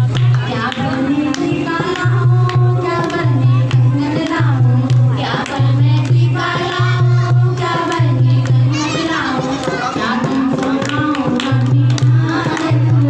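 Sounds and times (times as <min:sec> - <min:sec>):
group of voices singing folk song: 0:00.0 - 0:13.0.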